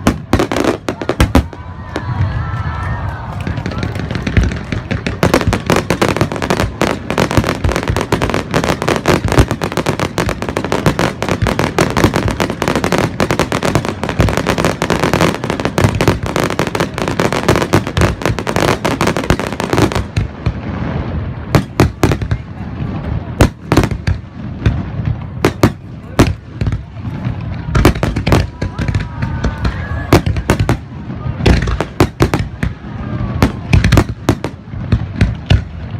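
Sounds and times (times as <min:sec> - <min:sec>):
fireworks bursting and crackling: 0:00.0 - 0:35.9
loud firework bangs: 0:00.0 - 0:35.9.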